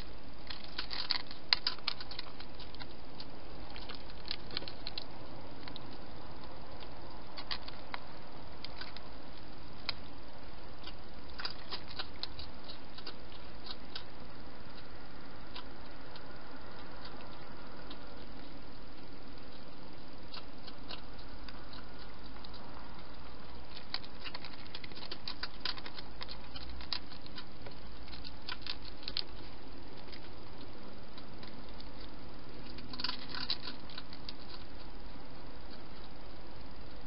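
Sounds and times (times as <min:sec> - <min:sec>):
cat chewing and crunching: 0:00.0 - 0:37.0
microphone hiss: 0:00.0 - 0:37.0.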